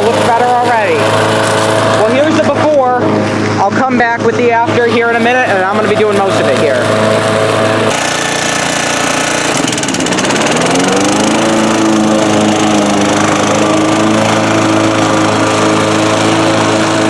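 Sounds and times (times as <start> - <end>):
lawnmower engine mowing: 0.0 - 17.0.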